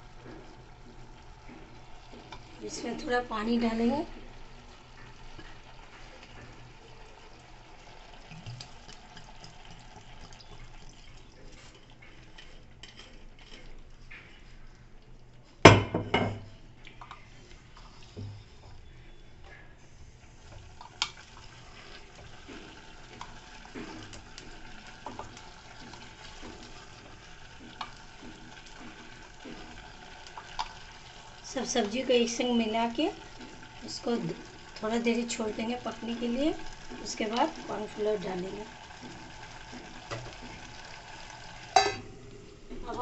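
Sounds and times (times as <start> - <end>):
wooden spatula stirring in pot: 0.0 - 15.7, 16.9 - 43.0.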